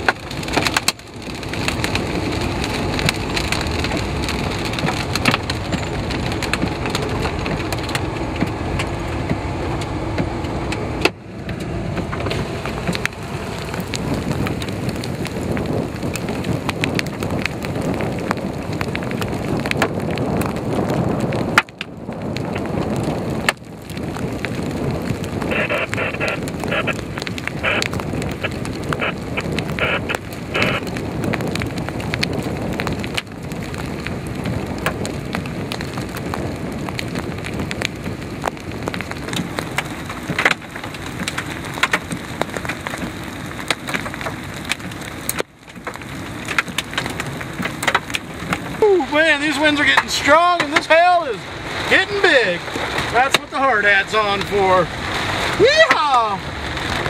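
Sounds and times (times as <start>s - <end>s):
hail knocking on car roof: 0.0s - 57.0s
rain and wind rushing: 0.0s - 57.0s.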